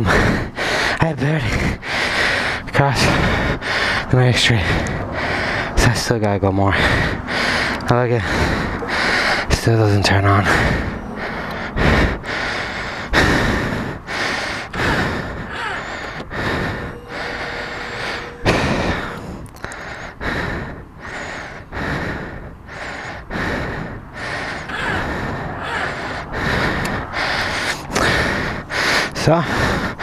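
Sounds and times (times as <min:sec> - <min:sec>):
man panting heavily: 0:00.0 - 0:30.0.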